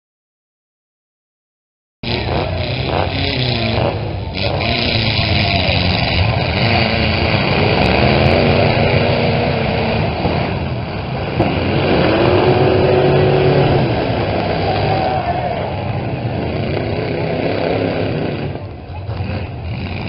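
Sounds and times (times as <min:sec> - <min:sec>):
truck engines revving hard: 0:02.0 - 0:20.0.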